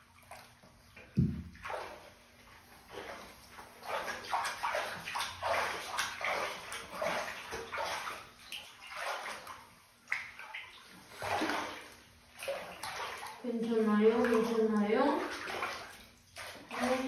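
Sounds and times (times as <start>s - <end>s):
bathwater sloshing and splashing: 0.0s - 17.0s.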